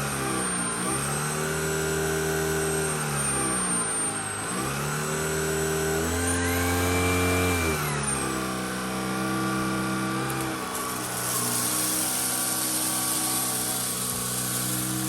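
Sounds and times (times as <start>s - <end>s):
vacuum cleaner motor hum: 0.0s - 15.0s.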